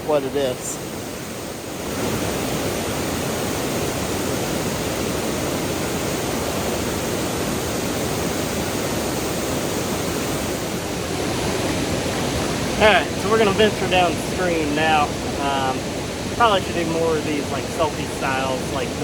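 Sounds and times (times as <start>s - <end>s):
water rushing over waterfall: 0.0s - 19.0s.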